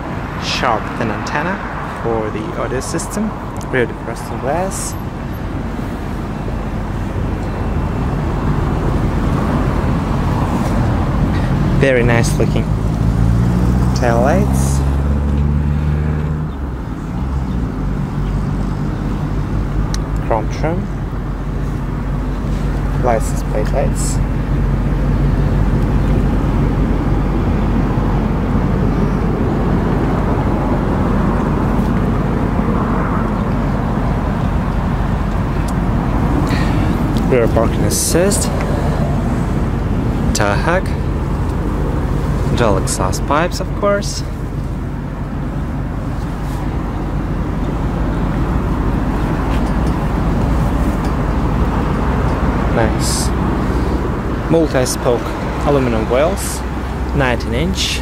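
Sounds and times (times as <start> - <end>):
car engine idling: 0.0 - 15.5, 16.5 - 58.0.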